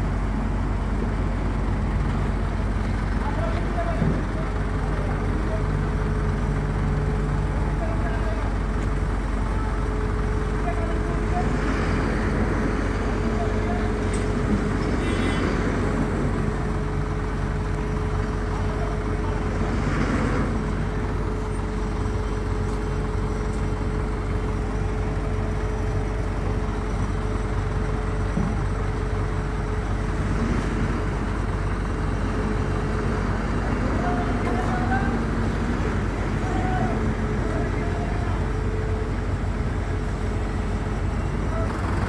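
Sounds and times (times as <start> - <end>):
diesel crane engines droning: 0.0 - 42.0.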